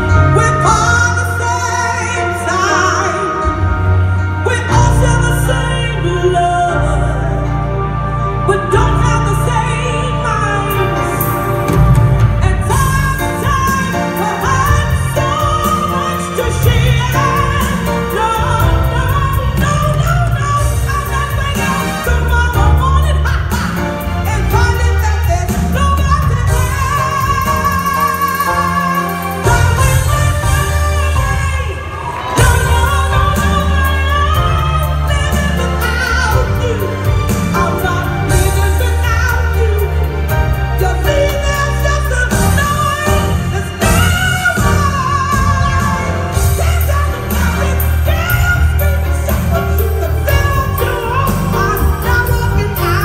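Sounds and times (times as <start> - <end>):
backing band with heavy bass: 0.0 - 53.0
woman singing into a microphone: 0.0 - 53.0.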